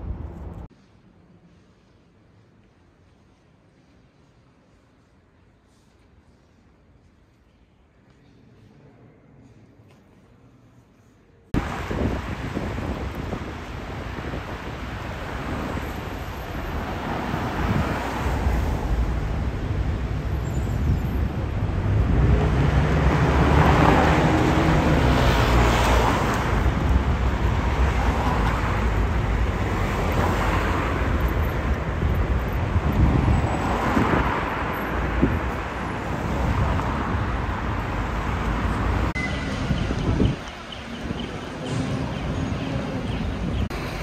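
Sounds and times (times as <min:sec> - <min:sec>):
street traffic passing: 0:00.0 - 0:44.0.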